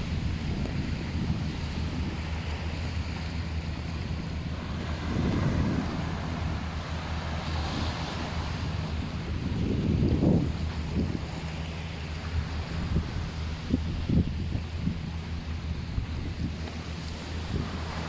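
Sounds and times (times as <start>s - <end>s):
steady low hum: 0.0s - 18.0s
waves washing onto beach: 0.0s - 18.0s
wind buffeting microphone: 0.0s - 18.0s.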